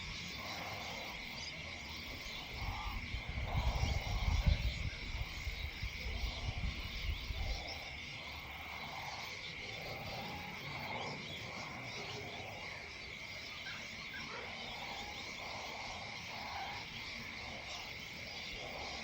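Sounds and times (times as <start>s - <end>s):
short croaking calls: 0.0s - 19.0s.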